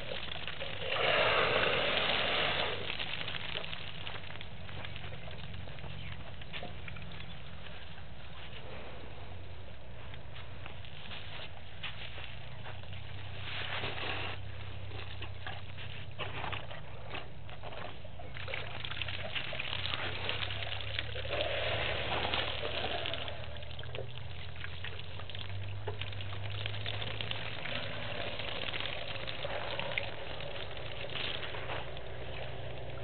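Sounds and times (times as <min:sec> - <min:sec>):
steady low hum: 0:00.0 - 0:33.0
water splashing and trickling: 0:00.0 - 0:33.0.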